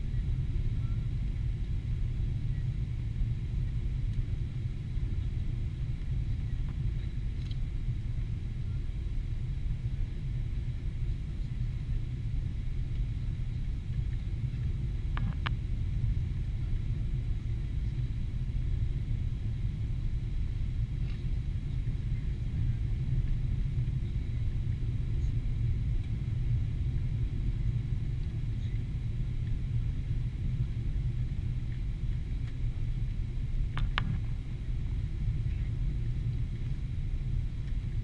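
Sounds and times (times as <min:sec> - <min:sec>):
airplane cabin low rumble: 0:00.0 - 0:38.0.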